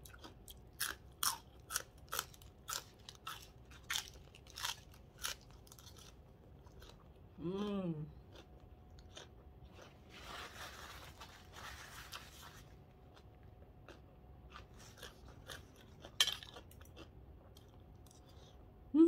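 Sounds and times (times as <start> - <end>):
chewing crunchy vegetables: 0.0 - 18.7.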